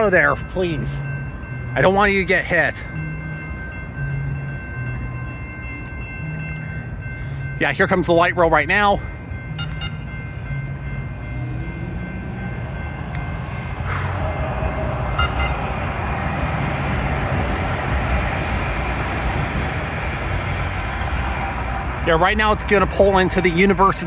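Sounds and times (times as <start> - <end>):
train wheels rolling on rail: 0.0 - 24.0.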